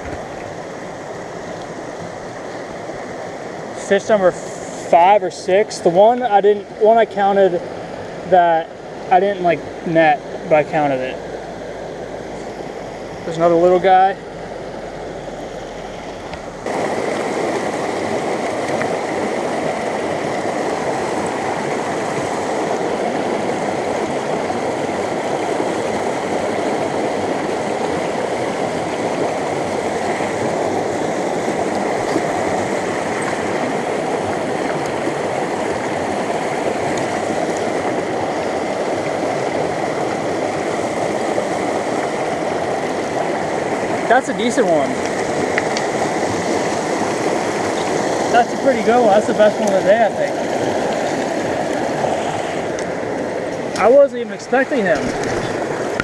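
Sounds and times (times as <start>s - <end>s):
stream gurgling over rocks: 0.0s - 56.0s.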